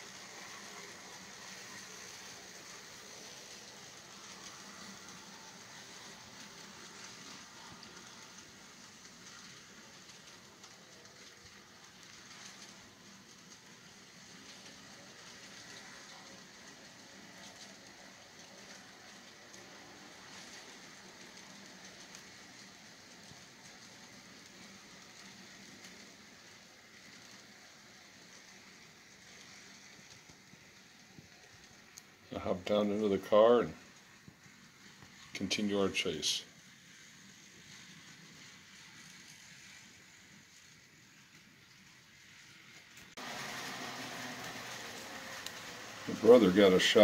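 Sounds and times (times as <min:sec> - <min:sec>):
model train cars rolling on track: 0:00.0 - 0:47.0.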